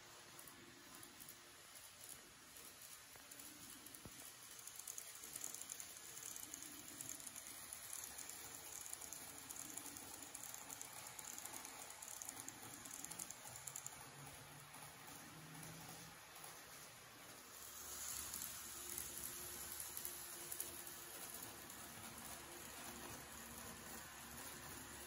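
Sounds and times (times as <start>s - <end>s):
model train wheels clicking: 0.0s - 25.0s.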